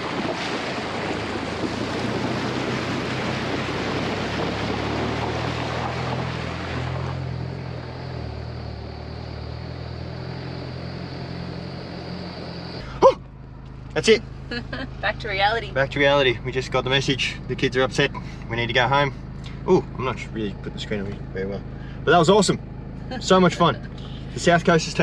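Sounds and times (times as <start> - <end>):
water splashing around wheels: 0.0 - 20.2
engine running low: 0.0 - 25.0.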